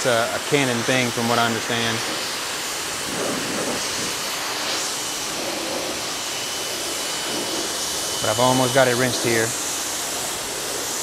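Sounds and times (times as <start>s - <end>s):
pressure washer spraying water: 0.0s - 11.0s.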